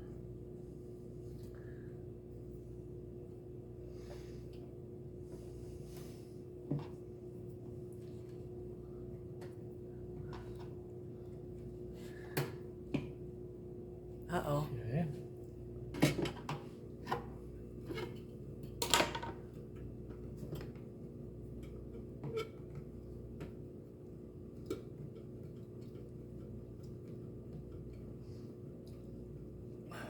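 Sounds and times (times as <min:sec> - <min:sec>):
steady low hum: 0:00.0 - 0:18.8, 0:22.8 - 0:30.0.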